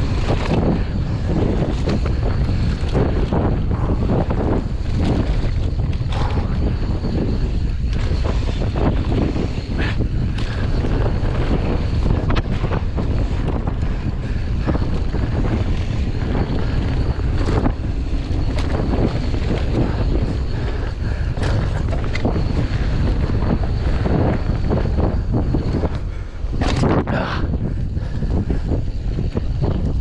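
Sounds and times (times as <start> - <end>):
bike rattling over bumps: 0.0 - 30.0
bike tyres rushing on dirt: 0.0 - 30.0
wind buffeting microphone: 0.0 - 30.0.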